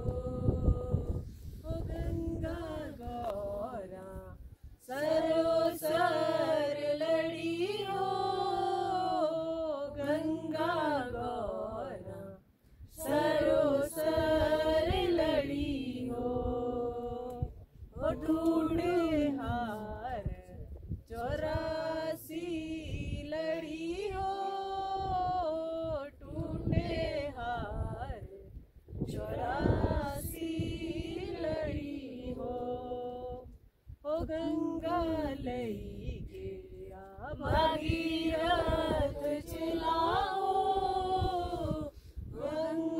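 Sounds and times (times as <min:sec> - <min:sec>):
women singing unaccompanied: 0:00.0 - 0:42.9.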